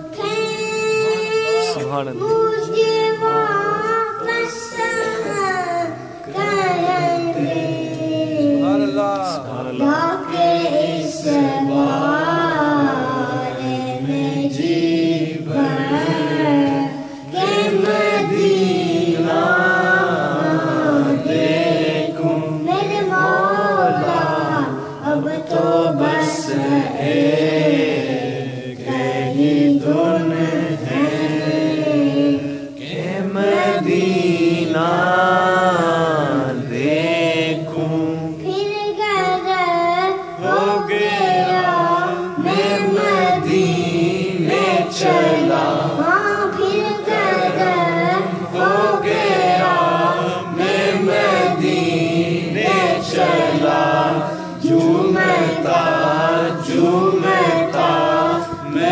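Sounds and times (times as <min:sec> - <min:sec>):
boy singing: 0:00.0 - 0:58.9.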